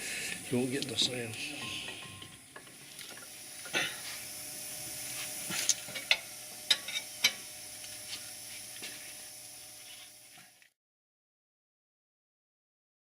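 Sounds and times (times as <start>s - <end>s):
steady hiss: 0.0s - 10.6s.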